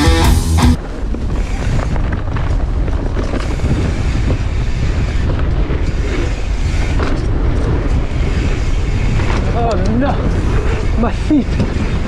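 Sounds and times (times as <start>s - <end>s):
wind on microphone: 0.7s - 12.0s
bike tyres rumbling on dirt: 0.8s - 12.0s
small rattles and ticks: 1.4s - 12.0s.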